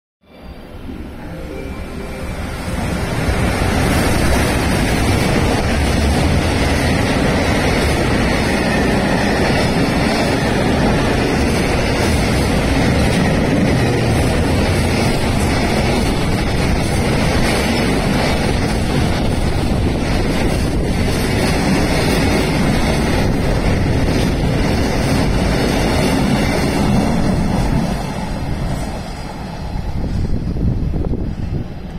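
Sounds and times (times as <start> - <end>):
freight train rumbling past: 0.2 - 31.9.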